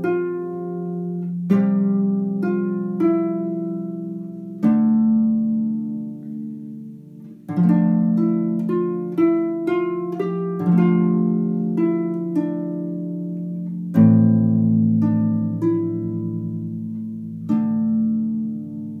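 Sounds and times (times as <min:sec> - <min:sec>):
harp plucked notes and chords: 0:00.0 - 0:19.0.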